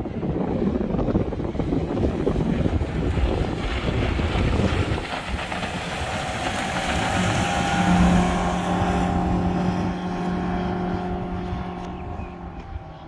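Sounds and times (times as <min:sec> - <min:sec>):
wind buffeting microphone: 0:00.0 - 0:13.0
boat motor running: 0:00.9 - 0:13.0
water washing: 0:01.4 - 0:12.9.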